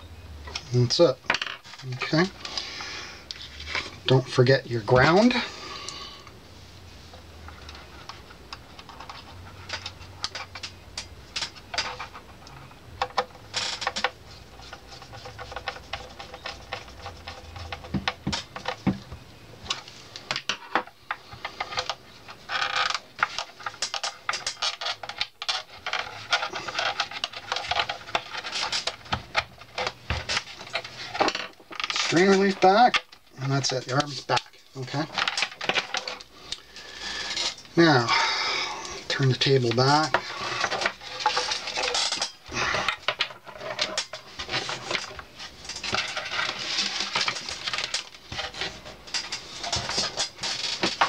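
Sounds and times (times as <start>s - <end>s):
small parts clicking and rattling: 7.4s - 51.0s.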